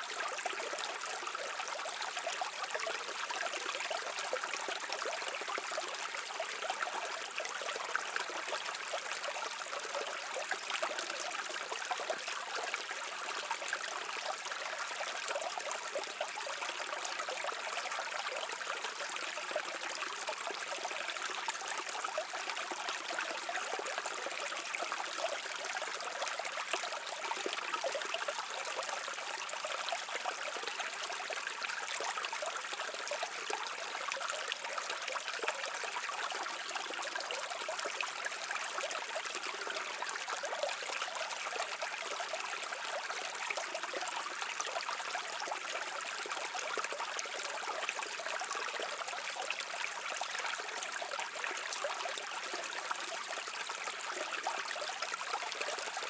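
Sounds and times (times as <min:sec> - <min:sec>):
stream trickling over stones: 0:00.0 - 0:56.0.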